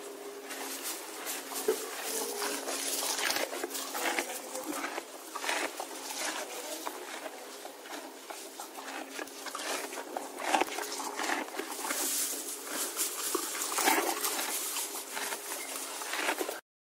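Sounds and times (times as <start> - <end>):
horse chewing and munching: 0.0 - 16.6.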